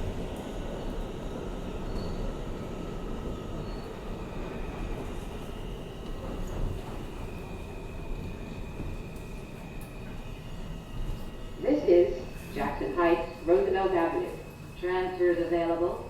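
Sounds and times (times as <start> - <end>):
subway wheels rumbling on track: 0.0 - 16.0.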